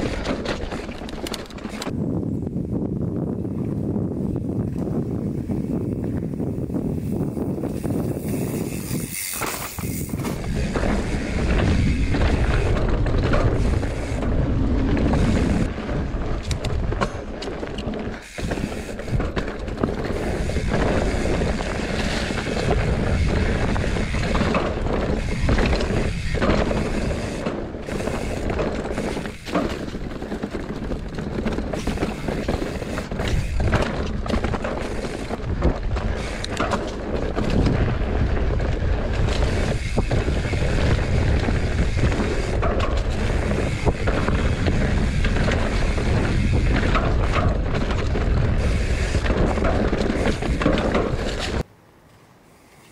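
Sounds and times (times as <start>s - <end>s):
bike rattling over rocky ground: 0.0s - 2.1s, 3.9s - 51.7s
wind buffeting microphone: 0.0s - 51.6s.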